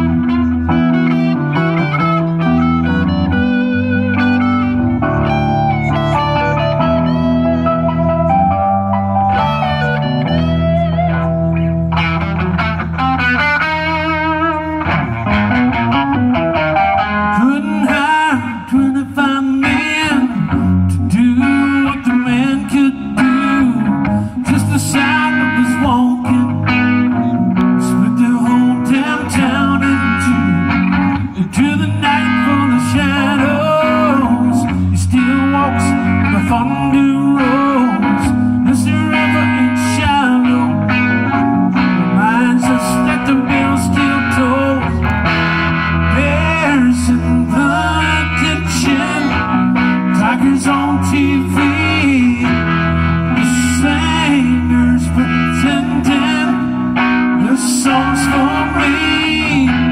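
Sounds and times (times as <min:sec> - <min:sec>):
electric guitar solo: 0:00.0 - 0:59.9
keyboard chords: 0:00.0 - 0:59.9.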